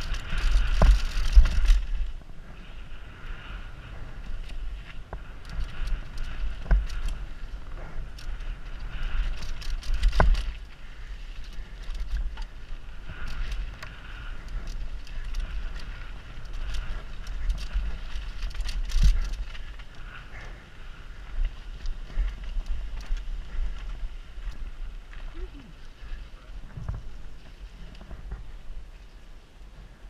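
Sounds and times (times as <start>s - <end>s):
bike clattering and rattling: 0.0s - 26.0s
wind rumble on microphone: 0.0s - 30.0s.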